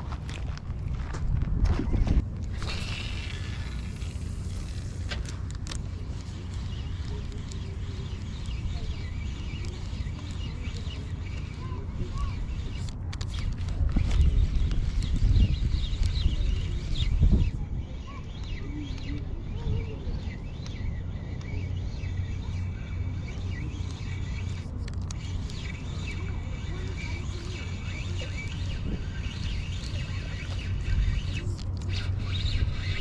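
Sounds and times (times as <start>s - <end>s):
wind rumbling on microphone: 0.0s - 33.0s
birds chirping faintly: 5.8s - 33.0s.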